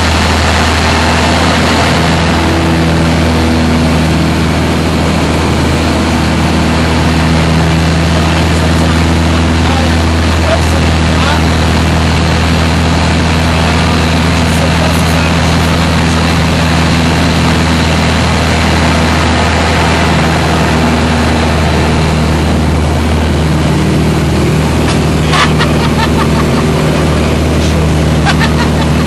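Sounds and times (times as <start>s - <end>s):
propeller aircraft engine droning: 0.0s - 29.0s.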